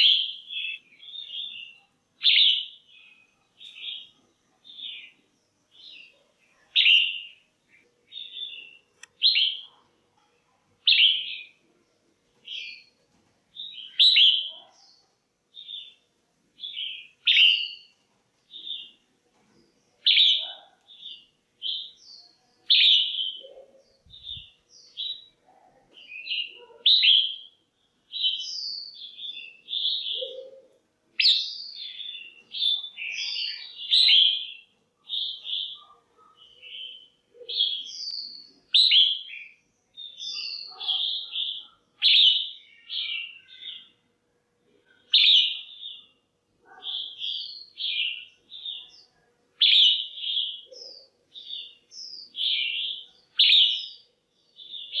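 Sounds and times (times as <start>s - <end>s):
bird chirping calls: 0.0s - 10.0s, 10.8s - 44.0s, 44.8s - 55.0s.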